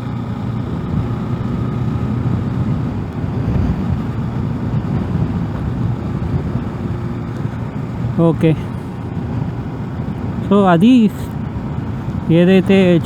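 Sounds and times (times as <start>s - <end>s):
motorcycle riding: 0.0s - 13.0s.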